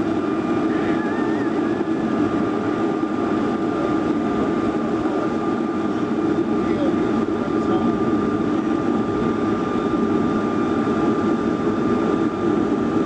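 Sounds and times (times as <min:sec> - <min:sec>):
airliner cabin engine rumble: 0:00.0 - 0:13.0
thin steady whine: 0:00.0 - 0:13.0.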